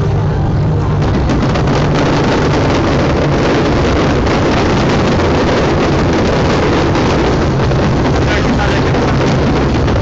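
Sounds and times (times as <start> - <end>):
fireworks bursting: 1.0 - 10.0.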